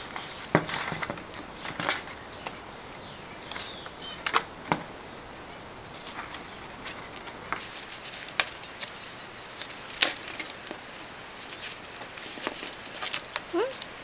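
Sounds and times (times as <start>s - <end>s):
paper crackling: 0.0s - 4.9s, 5.5s - 14.0s.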